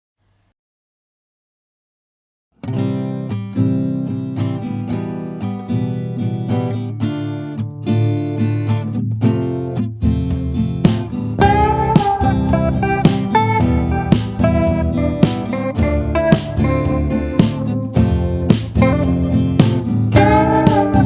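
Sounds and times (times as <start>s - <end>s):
acoustic guitar music: 2.6s - 21.0s.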